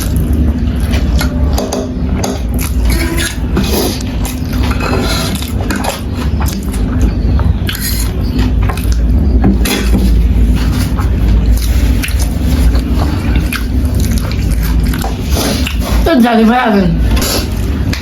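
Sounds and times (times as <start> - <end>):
utensils clinking against bowl: 0.8 - 18.0.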